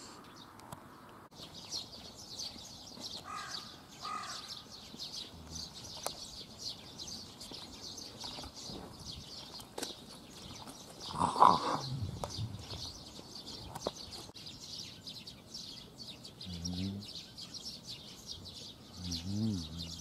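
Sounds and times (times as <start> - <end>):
small birds chirping: 0.0 - 20.0
lower bird calls: 1.4 - 20.0.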